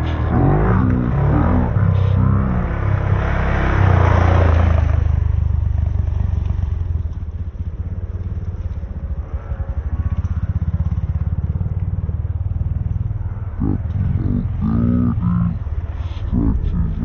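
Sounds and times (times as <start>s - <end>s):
dirt bike engine revving: 0.0s - 6.9s, 7.8s - 17.0s
pulsing engine rumble: 0.0s - 17.0s.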